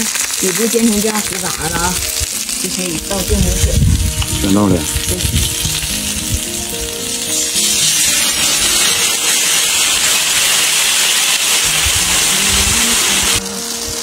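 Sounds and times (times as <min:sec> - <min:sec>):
water sizzling in a hot pan: 0:00.0 - 0:14.0.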